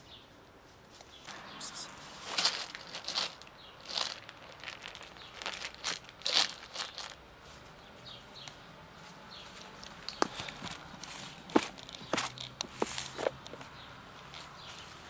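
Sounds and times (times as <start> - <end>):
dry leaves crunching underfoot: 1.2 - 15.0.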